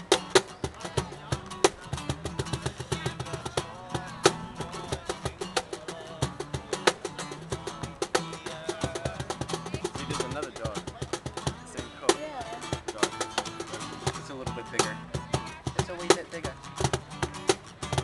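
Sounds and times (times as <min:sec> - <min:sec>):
slaps on a cajon: 0:00.0 - 0:18.0
strummed acoustic guitar: 0:00.0 - 0:18.0.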